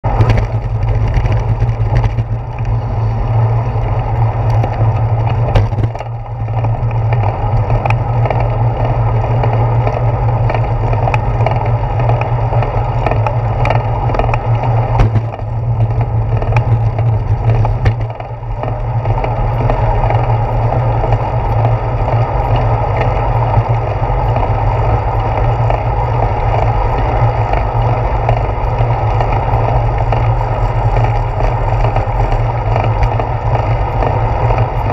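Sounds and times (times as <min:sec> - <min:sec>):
bicycle clicks and rattles: 0:00.0 - 0:34.9
wind and road rumble: 0:00.0 - 0:34.9.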